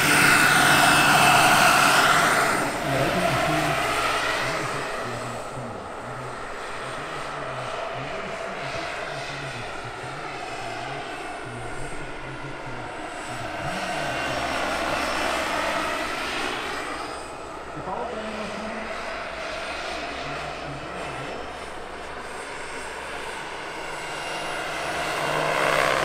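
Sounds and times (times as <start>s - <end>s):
model helicopter turbine and rotor: 0.0s - 26.0s.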